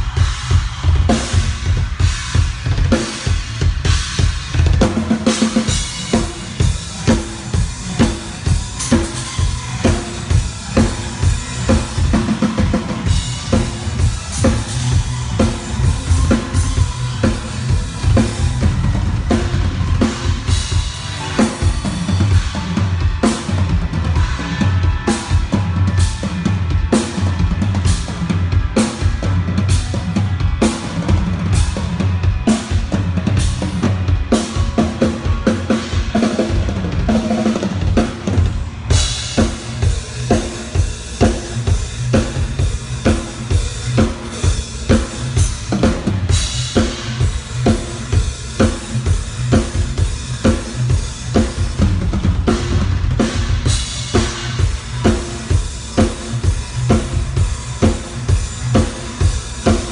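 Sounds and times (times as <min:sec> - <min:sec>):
drum kit groove: 0:00.0 - 0:59.9.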